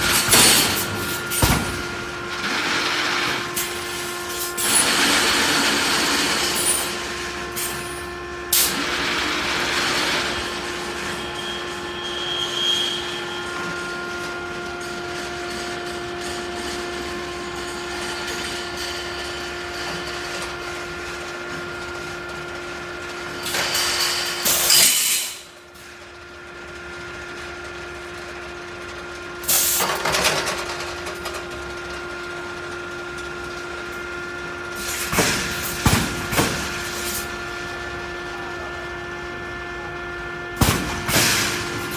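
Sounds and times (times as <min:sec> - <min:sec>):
welding machine noise bursts: 0:00.0 - 0:26.0, 0:29.4 - 0:41.9
welding machine electrical hum: 0:00.0 - 0:41.9.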